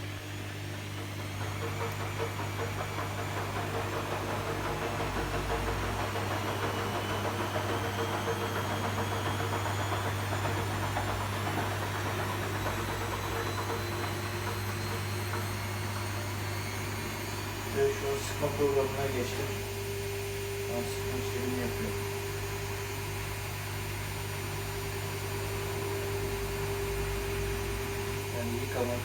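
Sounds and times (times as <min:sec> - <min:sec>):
washing machine running: 0:00.0 - 0:29.0.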